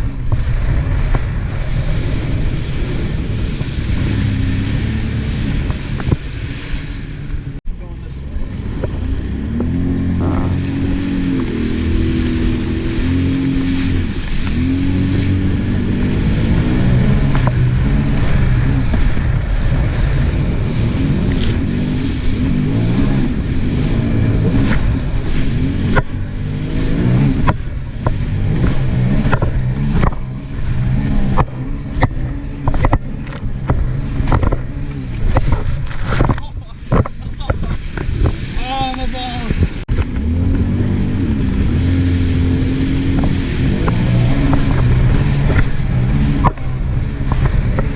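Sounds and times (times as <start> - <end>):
jet ski engine running: 0.0 - 47.9.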